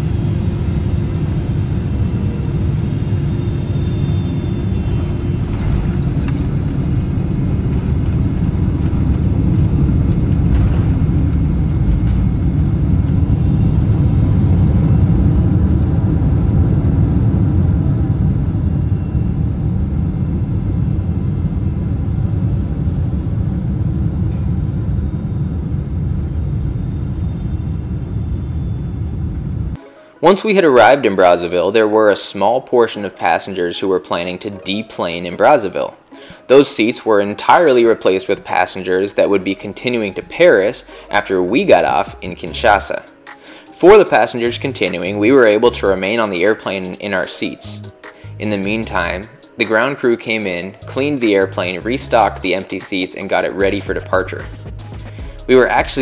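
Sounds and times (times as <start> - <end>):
airplane cabin rumble: 0.0 - 29.8, 36.3 - 56.0.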